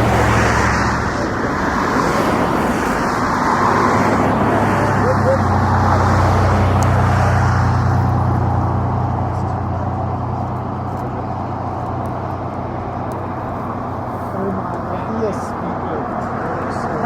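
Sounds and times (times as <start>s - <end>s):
jet aircraft engines humming: 0.0s - 17.0s.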